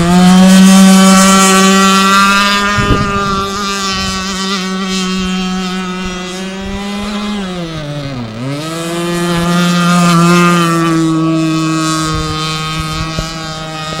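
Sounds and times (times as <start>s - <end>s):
model boat engine whining: 0.0s - 14.0s.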